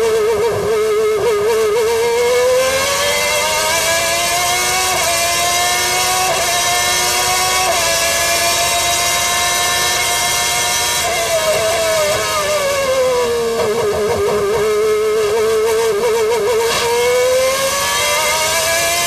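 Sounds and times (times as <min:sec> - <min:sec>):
racing car engine at full throttle: 0:00.0 - 0:19.0.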